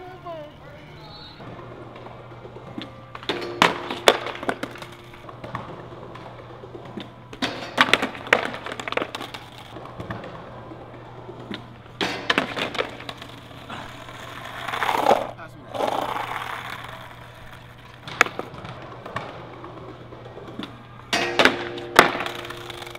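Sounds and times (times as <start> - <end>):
skateboard clattering on concrete: 1.4 - 22.9.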